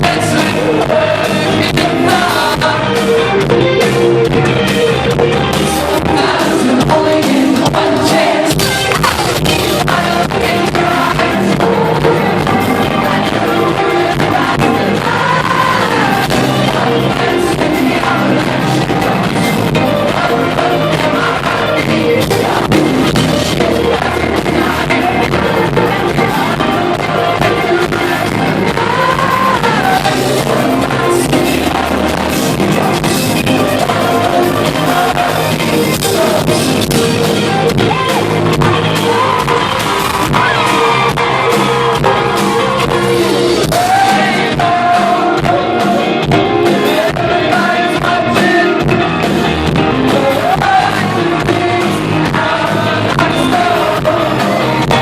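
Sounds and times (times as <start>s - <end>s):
band music: 0.0s - 55.0s
person singing: 0.0s - 55.0s.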